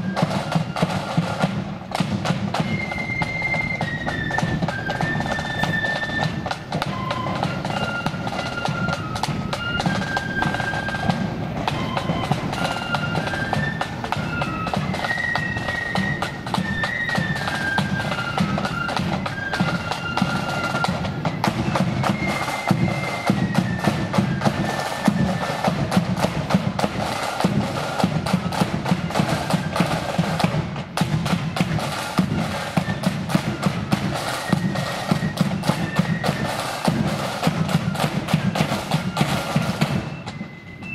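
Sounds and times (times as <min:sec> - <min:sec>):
high flute melody: 0:00.0 - 0:40.9
snare drum rolls: 0:00.0 - 0:40.9.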